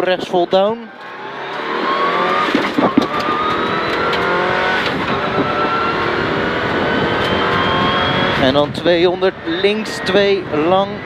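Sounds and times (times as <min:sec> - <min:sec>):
car engine accelerating: 0:00.4 - 0:11.0.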